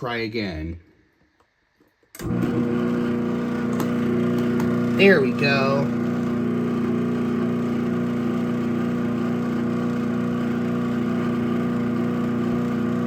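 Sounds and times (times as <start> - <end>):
garage door opener motor hum: 2.2 - 13.0.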